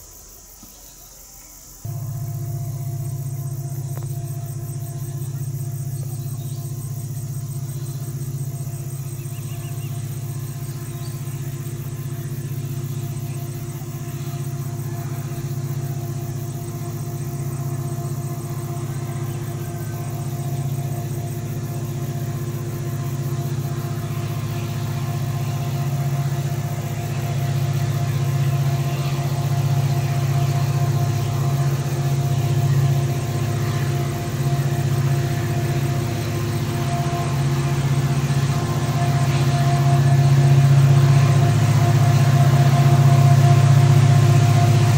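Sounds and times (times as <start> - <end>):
diesel locomotive engine drone: 0.0 - 44.9.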